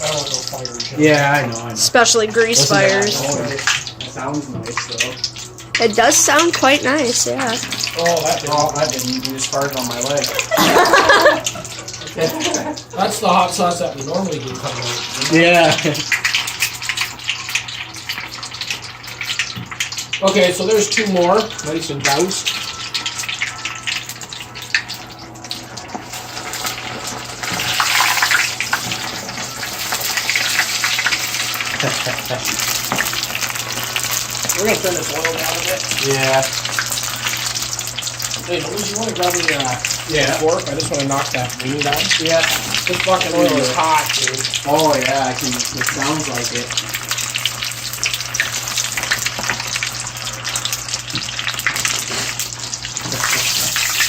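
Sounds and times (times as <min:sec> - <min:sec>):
chicken deep-frying in oil: 0:00.0 - 0:54.0.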